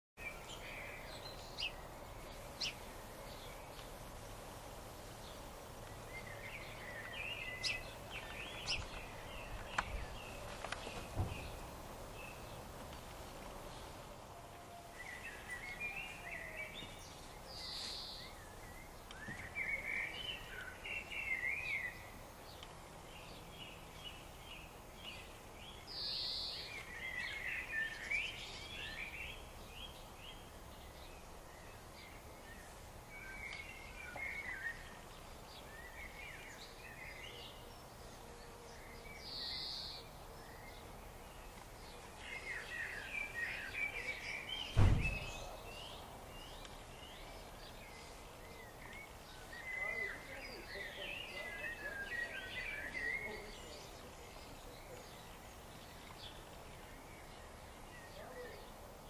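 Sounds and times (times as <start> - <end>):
birds chirping and twittering: 0.2 - 59.0
steady outdoor background: 0.2 - 59.0.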